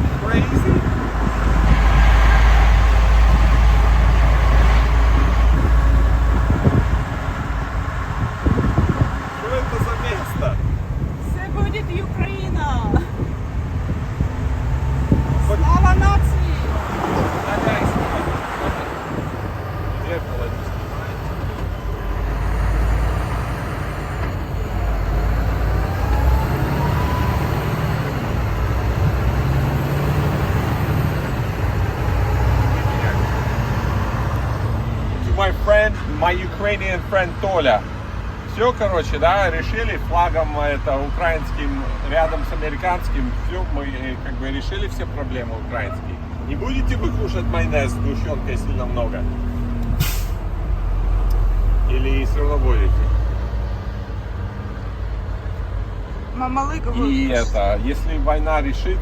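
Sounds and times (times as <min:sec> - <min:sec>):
road noise: 0:00.0 - 0:59.0
truck engine rumble: 0:00.0 - 0:59.0.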